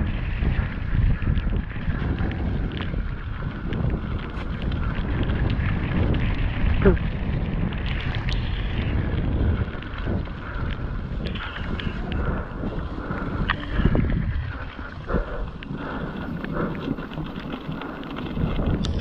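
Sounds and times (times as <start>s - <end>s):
tyres rumbling on trail: 0.0s - 19.0s
wind buffeting microphone: 0.0s - 19.0s.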